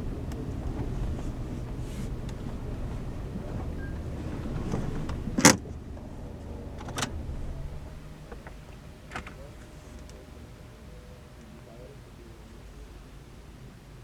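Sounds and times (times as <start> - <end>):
low car rumble: 0.0 - 14.0.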